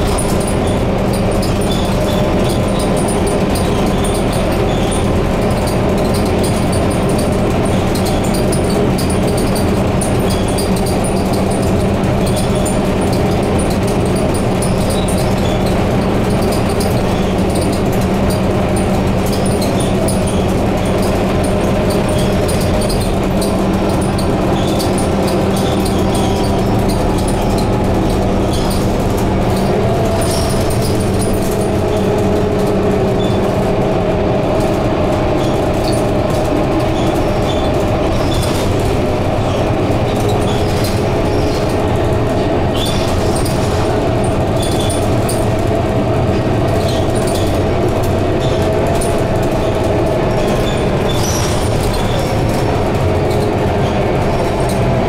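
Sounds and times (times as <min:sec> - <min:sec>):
body clicks and rattles: 0:00.0 - 0:55.0
bus engine drone: 0:00.0 - 0:55.0
tyre and road noise: 0:00.0 - 0:55.0.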